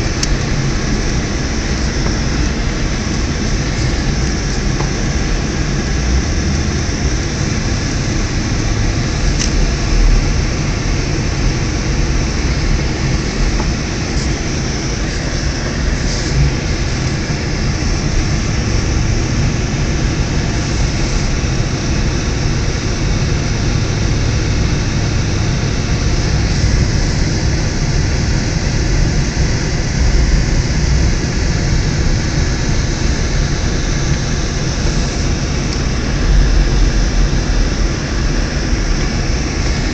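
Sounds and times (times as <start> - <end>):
car engine rumble inside cabin: 0.0 - 39.9.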